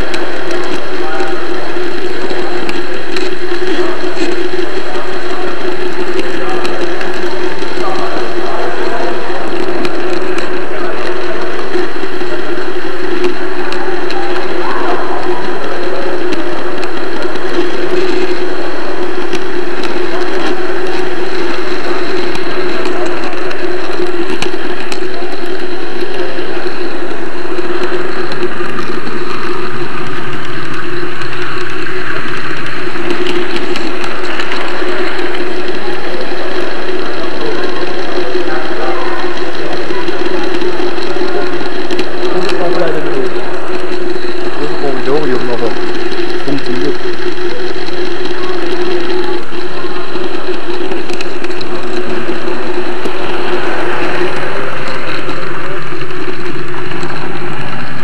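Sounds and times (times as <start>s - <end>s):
faint clicks: 0.0s - 58.0s
model train motor whir: 0.0s - 58.0s
wheels rumbling on rail: 0.0s - 58.0s.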